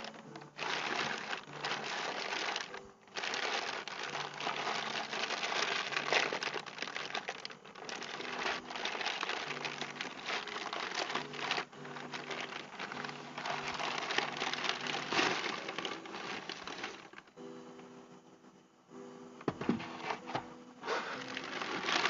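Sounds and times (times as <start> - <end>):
plastic packaging crinkling: 0.0 - 17.4, 19.8 - 22.0.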